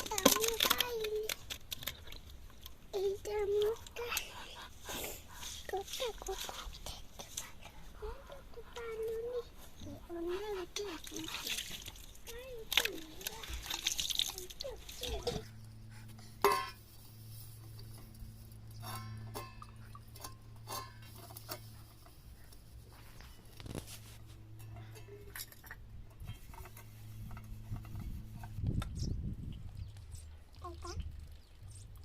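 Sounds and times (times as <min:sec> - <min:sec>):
steady low hum: 0:01.2 - 0:32.0.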